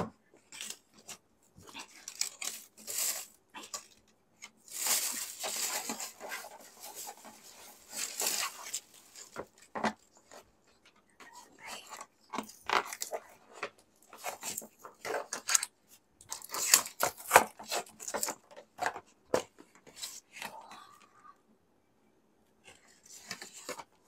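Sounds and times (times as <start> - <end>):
paper and cardboard rustling: 0.4 - 10.8, 11.6 - 15.6, 16.3 - 20.4, 22.7 - 24.0.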